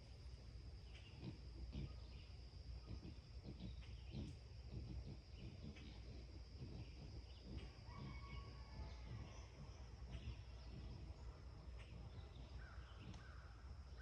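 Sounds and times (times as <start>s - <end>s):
insect trill: 0.0s - 14.0s
bird chirps: 0.8s - 14.0s.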